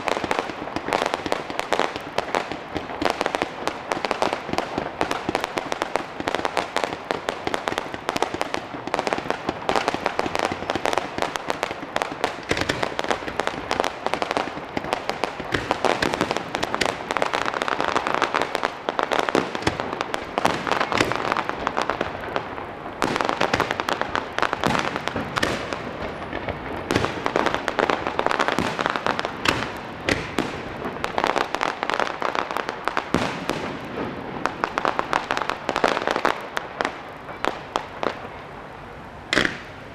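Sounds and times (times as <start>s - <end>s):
fireworks bursts and crackling pops: 0.0s - 39.9s.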